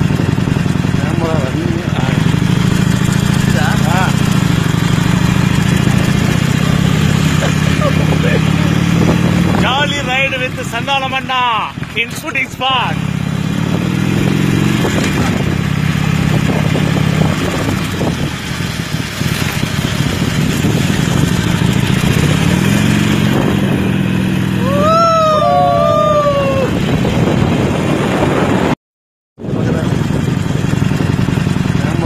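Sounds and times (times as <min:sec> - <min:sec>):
motorcycle engine running: 0:00.0 - 0:28.8, 0:29.4 - 0:32.0
wind noise on microphone: 0:01.7 - 0:10.2, 0:13.3 - 0:28.8, 0:29.4 - 0:32.0.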